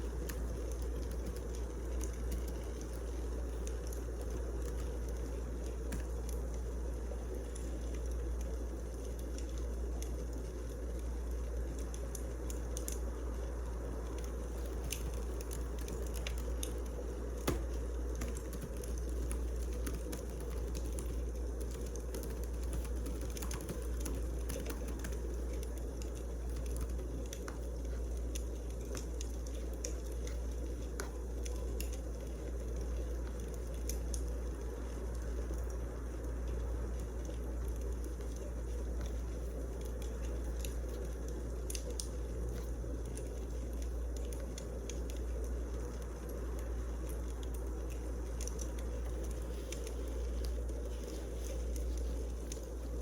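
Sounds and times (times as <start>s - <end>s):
fire crackles and pops: 0.0s - 53.0s
wood fire rumbling: 0.0s - 53.0s.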